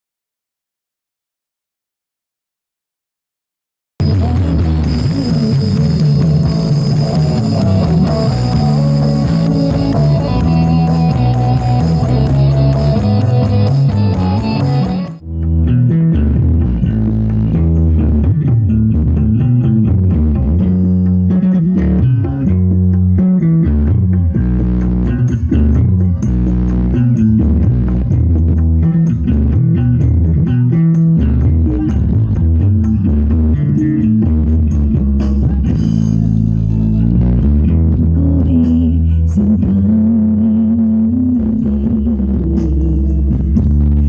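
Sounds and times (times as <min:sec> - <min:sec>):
loud music with bass guitar: 0:04.0 - 0:44.0.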